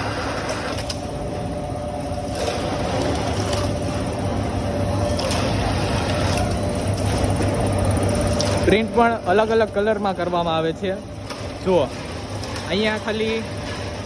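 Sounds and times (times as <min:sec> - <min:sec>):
printing machine humming: 0:00.0 - 0:14.0.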